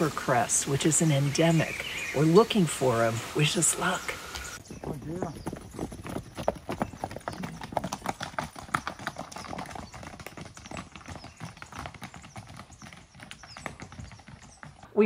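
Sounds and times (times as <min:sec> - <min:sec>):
horse hooves clip-clopping on dirt: 0:00.0 - 0:15.0.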